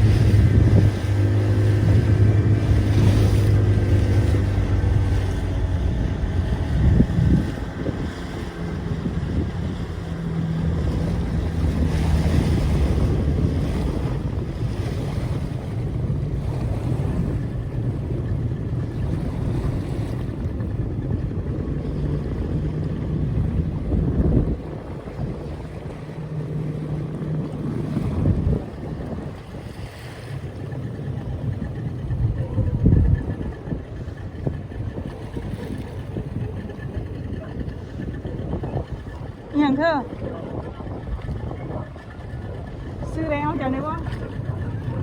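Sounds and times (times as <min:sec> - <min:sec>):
boat motor running: 0:00.0 - 0:45.0
water rushing past hull: 0:00.0 - 0:45.0
wind buffeting microphone: 0:00.0 - 0:45.0.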